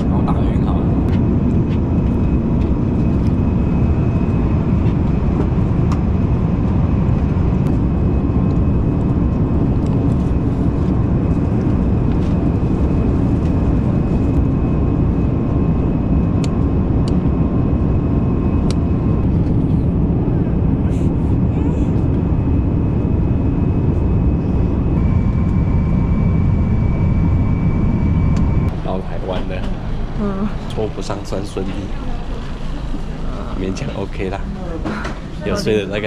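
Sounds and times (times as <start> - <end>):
engine and airflow rush: 0.0 - 36.0.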